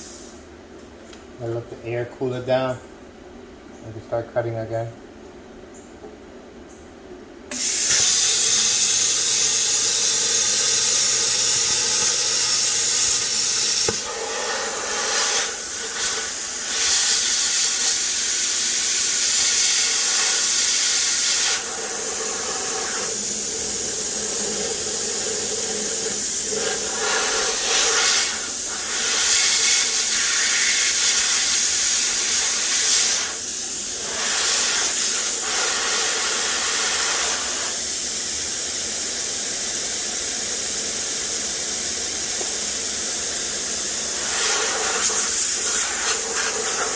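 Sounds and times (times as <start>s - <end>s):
plasma cutter hissing: 0.0s - 0.4s, 7.5s - 46.9s.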